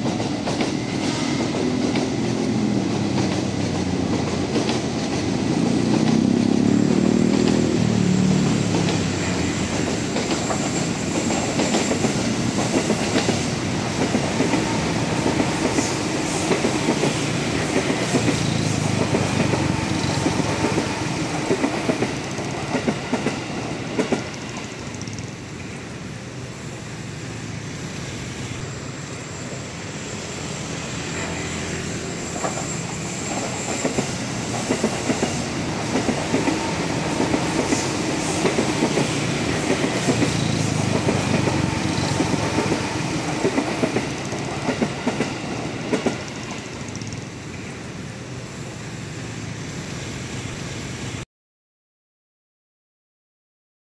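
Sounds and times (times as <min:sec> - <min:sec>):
train wheels rumbling on rails: 0:00.0 - 0:51.2.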